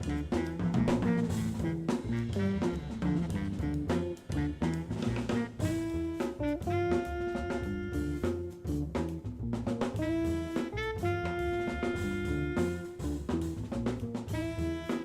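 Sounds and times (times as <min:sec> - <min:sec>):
horns holding long notes: 0:00.0 - 0:08.9, 0:10.0 - 0:13.5, 0:14.3 - 0:15.0
bass line: 0:00.0 - 0:15.0
drum kit keeping time: 0:00.0 - 0:15.0.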